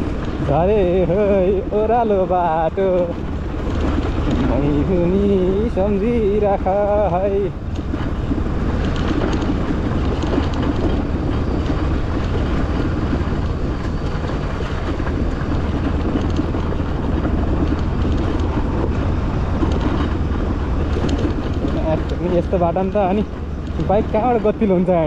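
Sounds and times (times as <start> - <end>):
motorcycle rumble: 0.0 - 25.0
tyres on loose stones: 0.0 - 25.0.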